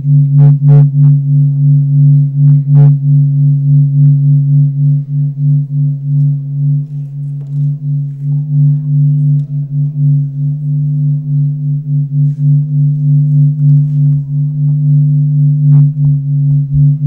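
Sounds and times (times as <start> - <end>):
low pulsing drone: 0.0 - 17.0.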